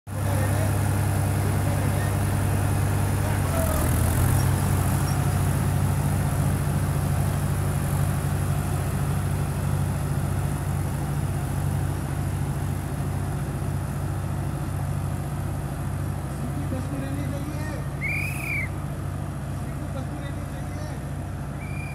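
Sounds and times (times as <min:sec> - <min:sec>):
tractor diesel engine under load: 0:00.1 - 0:21.9.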